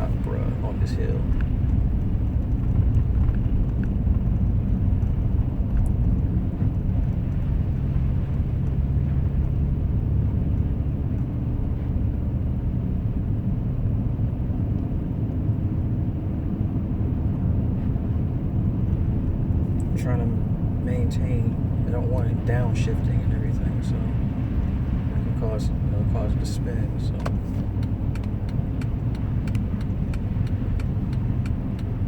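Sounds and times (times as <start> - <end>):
car interior road rumble: 0.0 - 32.0.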